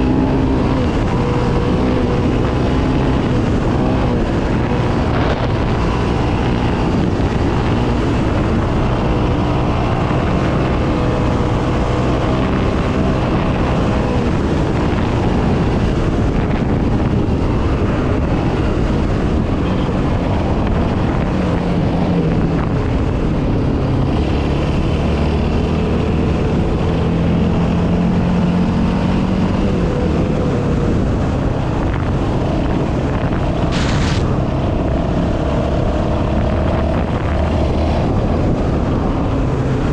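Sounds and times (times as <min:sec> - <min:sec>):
quad engine running: 0:00.0 - 0:39.9
wind on microphone: 0:00.0 - 0:39.9.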